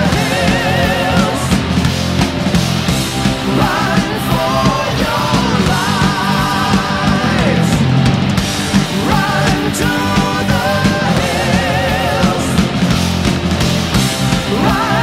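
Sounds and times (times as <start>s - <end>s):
heavy rock music: 0.0s - 15.0s.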